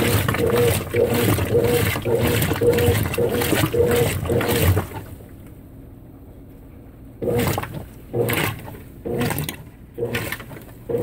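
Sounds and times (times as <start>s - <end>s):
washing machine load sloshing: 0.0s - 5.4s, 7.2s - 11.0s.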